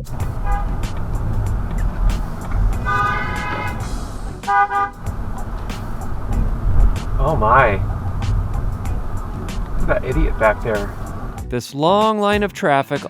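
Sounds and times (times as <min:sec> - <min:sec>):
car horns honking: 0:00.0 - 0:11.4
low traffic rumble: 0:00.0 - 0:11.5.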